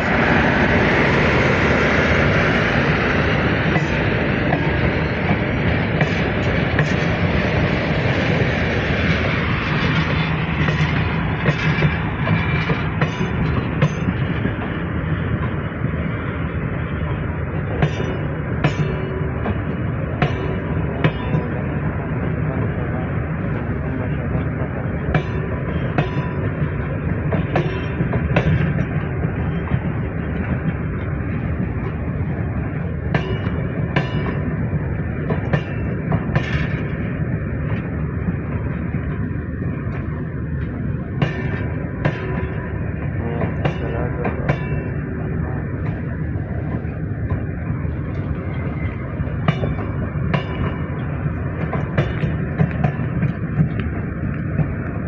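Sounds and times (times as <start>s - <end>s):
train rumbling with engine hum: 0.0s - 55.0s.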